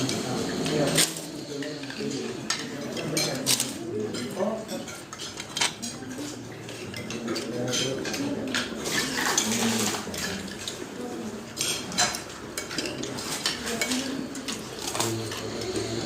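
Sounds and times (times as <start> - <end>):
cutlery clinking on plates: 0.0 - 16.0
murmur of voices: 0.0 - 16.0.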